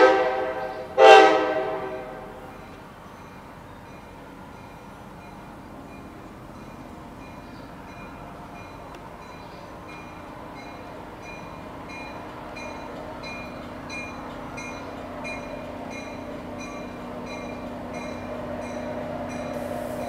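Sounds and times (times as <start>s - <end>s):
train rumble and hum: 0.0s - 20.0s
train bell ringing: 2.4s - 20.0s.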